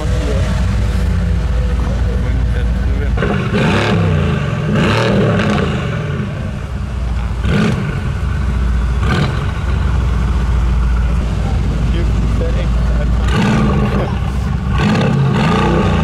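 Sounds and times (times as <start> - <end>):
car engine idling: 0.0 - 16.0
engine throttle blips: 0.0 - 16.0.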